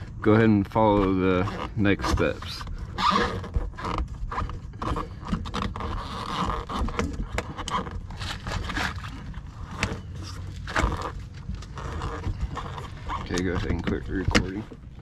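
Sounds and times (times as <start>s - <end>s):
hands scraping plastic liner: 0.8s - 14.7s.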